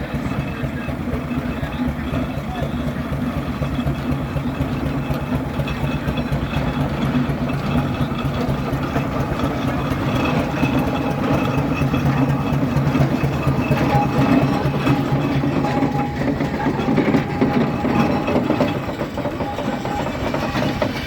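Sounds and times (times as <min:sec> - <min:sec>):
steam roller rumbling: 0:00.0 - 0:21.0.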